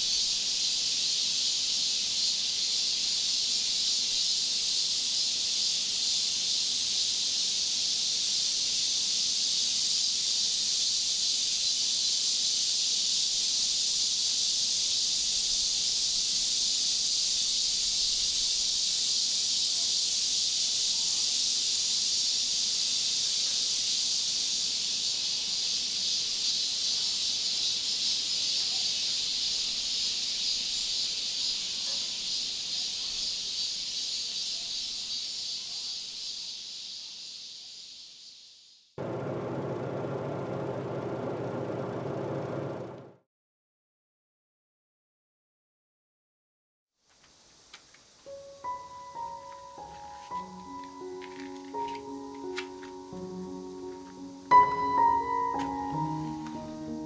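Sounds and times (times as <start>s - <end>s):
insects chorus: 0.0s - 39.4s, 47.1s - 57.0s.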